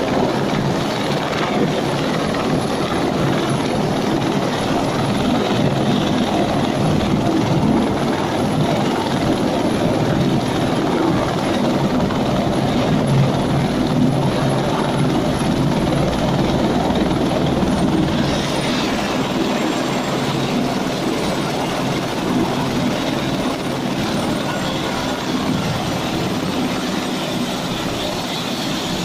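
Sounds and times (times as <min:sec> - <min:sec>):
helicopter rotor and turbine: 0:00.0 - 0:29.0
high turbine whine: 0:00.0 - 0:29.0.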